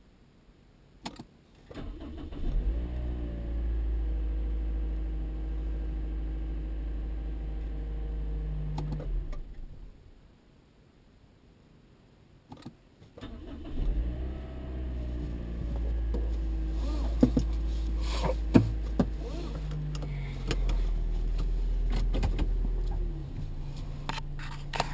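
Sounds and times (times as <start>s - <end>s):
car engine cranking and idling: 1.6s - 10.1s, 12.6s - 24.9s.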